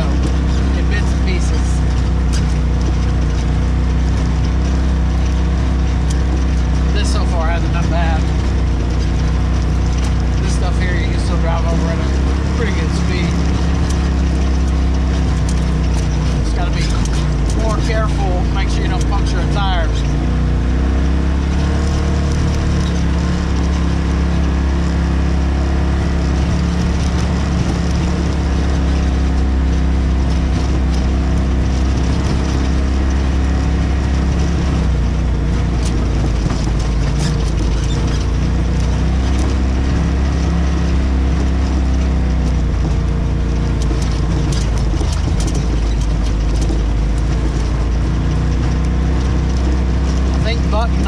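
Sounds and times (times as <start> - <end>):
clicks and rattles: 0.0 - 20.4, 26.0 - 51.0
tyre and chassis noise: 0.0 - 51.0
vehicle engine drone: 0.0 - 51.0.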